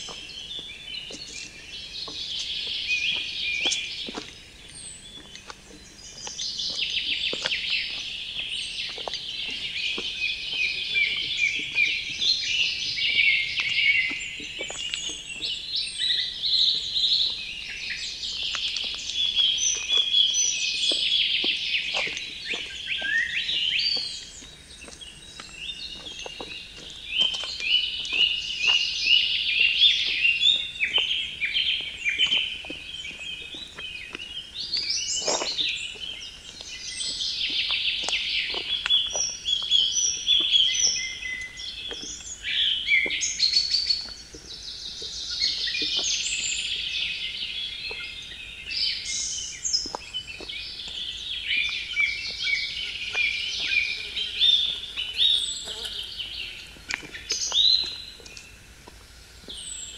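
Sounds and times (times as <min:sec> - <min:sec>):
wild birds singing: 0:00.0 - 0:59.9.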